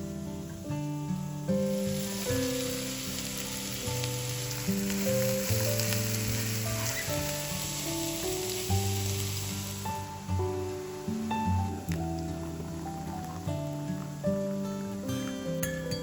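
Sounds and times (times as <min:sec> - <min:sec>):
background music: 0:00.0 - 0:16.0
food sizzling in a pan: 0:00.0 - 0:16.0.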